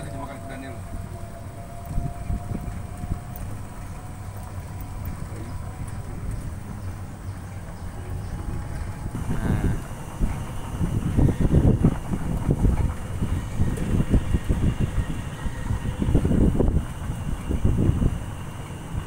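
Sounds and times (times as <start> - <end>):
shuttle engine and road noise: 0.0 - 19.0.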